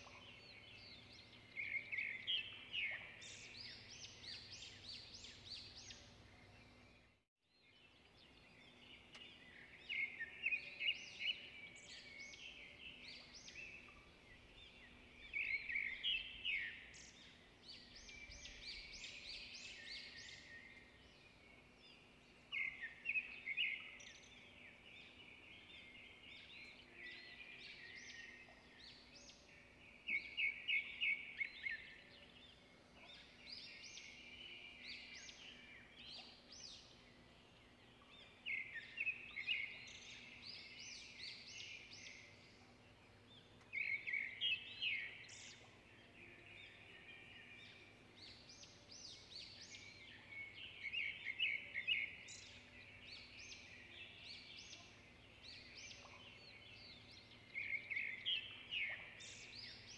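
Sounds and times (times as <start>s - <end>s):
bird singing with trills: 0.0s - 7.2s, 7.8s - 59.9s.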